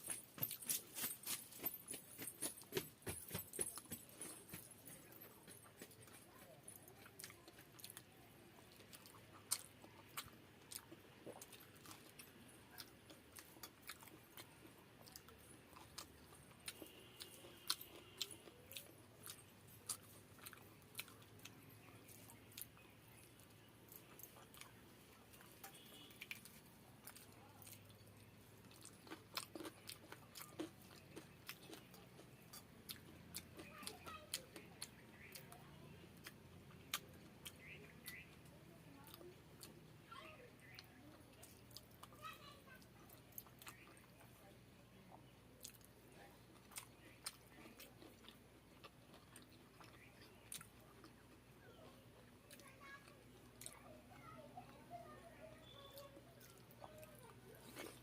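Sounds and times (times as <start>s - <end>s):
person chewing and crunching: 0.0s - 39.8s, 40.6s - 54.8s, 55.6s - 58.0s.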